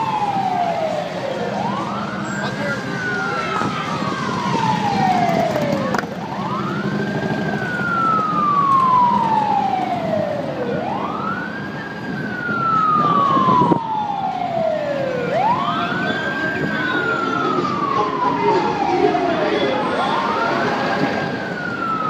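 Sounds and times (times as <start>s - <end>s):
emergency siren wailing: 0.0s - 22.0s
street traffic: 0.0s - 22.0s.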